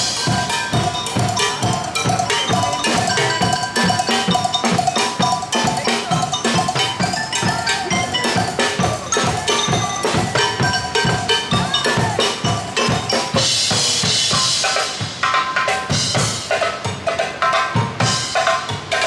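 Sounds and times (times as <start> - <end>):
bass and snare drums beating: 0.0 - 19.0.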